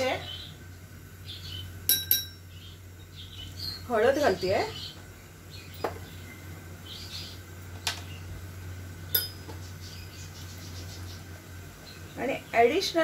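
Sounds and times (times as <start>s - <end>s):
faint chirping: 0.0s - 13.0s
steady low hum: 0.0s - 13.0s.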